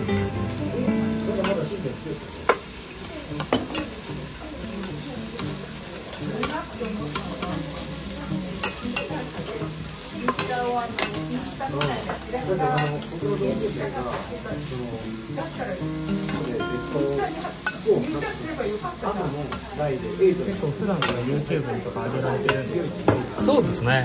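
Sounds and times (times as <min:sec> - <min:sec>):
noodles sizzling on griddle: 0:00.0 - 0:24.0.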